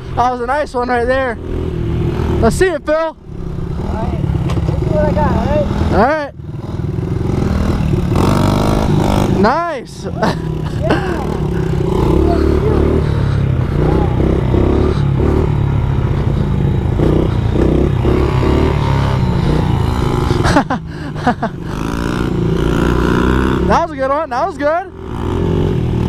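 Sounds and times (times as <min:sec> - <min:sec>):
pit bike engine: 0:00.0 - 0:26.0.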